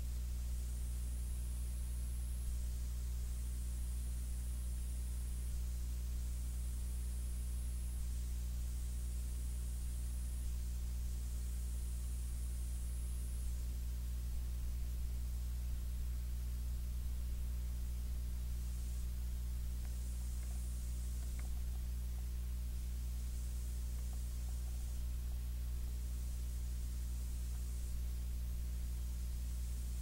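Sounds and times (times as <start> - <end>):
faint high whine: 0.0 - 30.0
faint hiss: 0.0 - 30.0
low electrical hum: 0.0 - 30.0.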